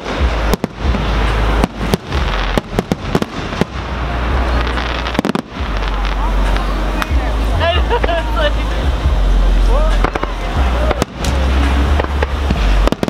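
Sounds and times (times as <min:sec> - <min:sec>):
constant low rumble: 0:00.0 - 0:13.0
fireworks bangs and crackles: 0:00.0 - 0:13.0.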